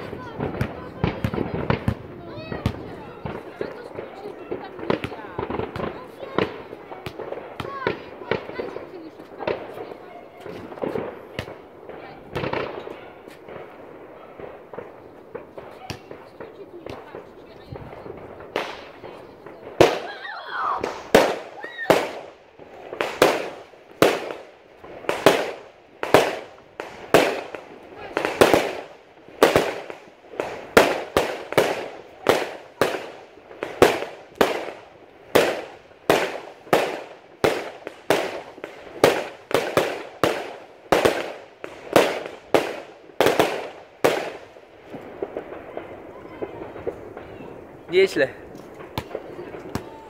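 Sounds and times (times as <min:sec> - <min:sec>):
firework shells bursting: 0:00.0 - 0:50.0.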